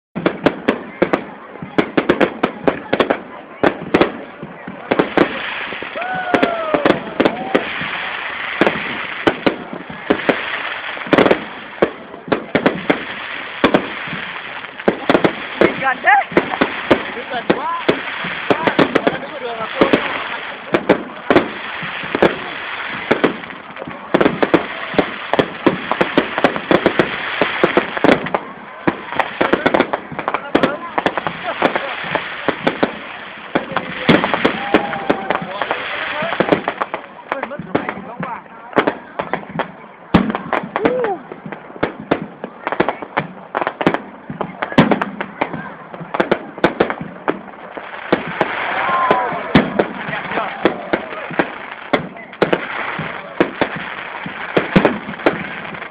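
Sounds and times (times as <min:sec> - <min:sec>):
continuous din: 0:00.2 - 0:55.8
fireworks bangs: 0:00.2 - 0:55.9.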